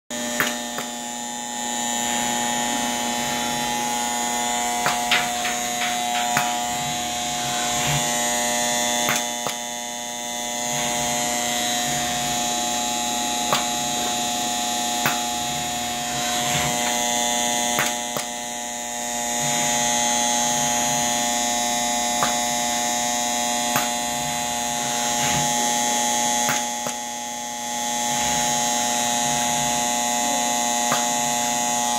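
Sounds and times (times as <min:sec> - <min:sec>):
robot arm servo hum and whine: 0:00.2 - 0:31.9.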